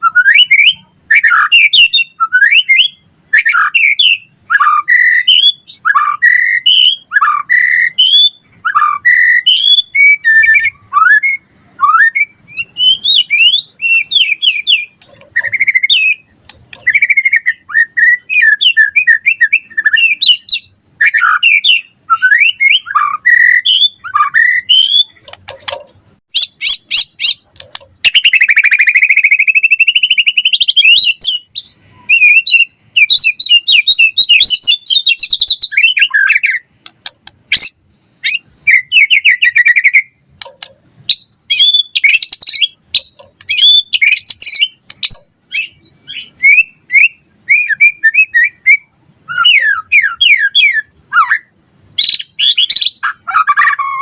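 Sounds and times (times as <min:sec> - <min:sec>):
bird singing whistles and trills: 0:00.0 - 0:25.4, 0:26.3 - 0:36.7, 0:37.5 - 0:40.2, 0:41.1 - 0:54.0.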